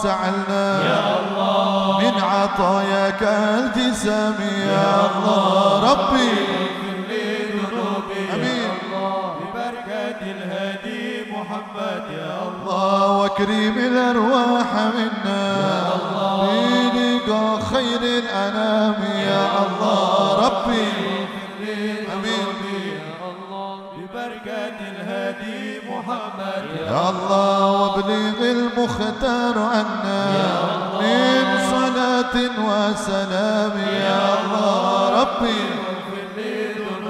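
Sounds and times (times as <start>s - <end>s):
man chanting through pa: 0.0s - 37.0s.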